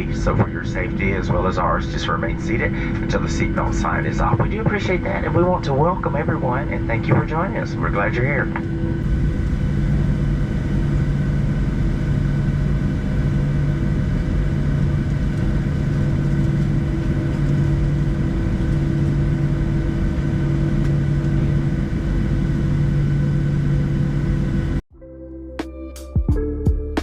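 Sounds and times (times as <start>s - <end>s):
jet engines droning in cabin: 0.0s - 24.8s.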